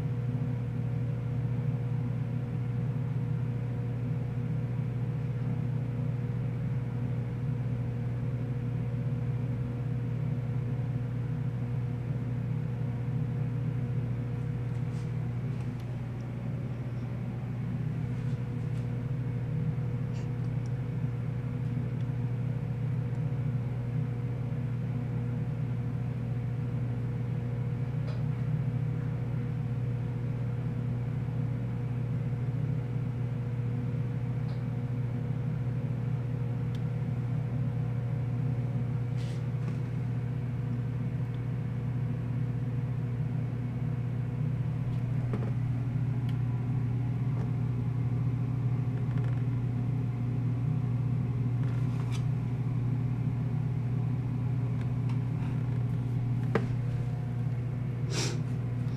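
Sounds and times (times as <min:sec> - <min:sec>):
low room hum: 0:00.0 - 0:58.9.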